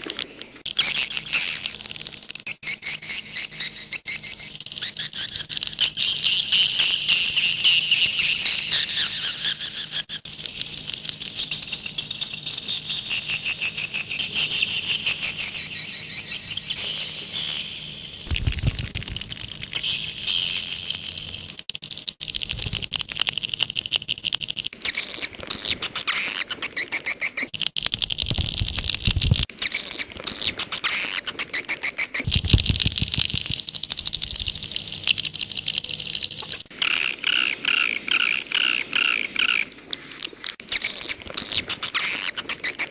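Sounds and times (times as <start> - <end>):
swiftlets chittering: 0.7 - 25.8, 27.5 - 31.1, 32.1 - 39.6.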